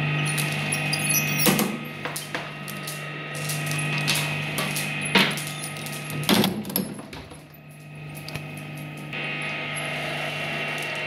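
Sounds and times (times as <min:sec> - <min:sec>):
shredder machine hum: 0:00.0 - 0:11.0.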